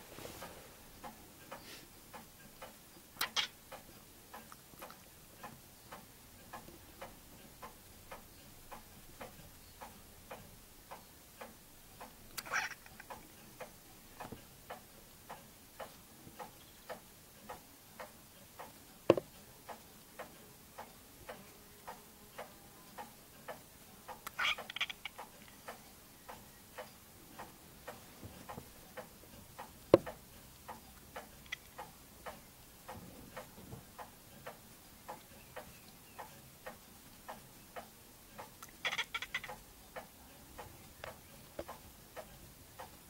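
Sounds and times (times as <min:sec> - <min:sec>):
clock ticking: 0:01.0 - 0:43.0.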